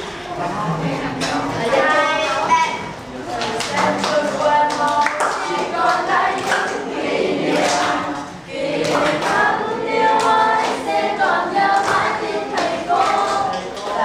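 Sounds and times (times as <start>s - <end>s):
students singing together: 0.0s - 14.0s.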